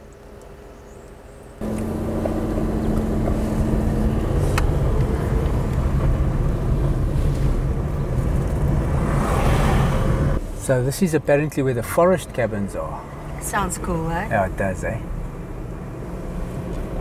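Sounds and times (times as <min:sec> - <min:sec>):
road and tyre noise: 0:00.0 - 0:17.0
car engine running: 0:01.6 - 0:17.0.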